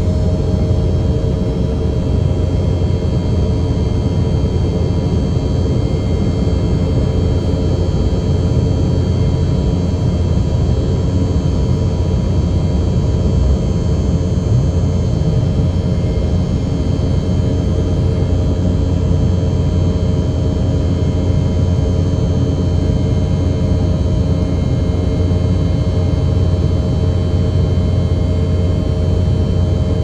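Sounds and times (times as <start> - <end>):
airliner cabin engine noise: 0.0 - 30.0.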